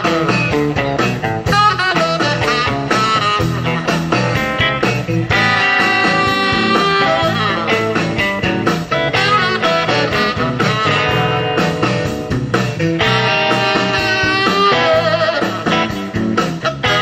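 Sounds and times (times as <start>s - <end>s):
band playing blues song: 0.0s - 17.0s
guitar: 0.0s - 17.0s.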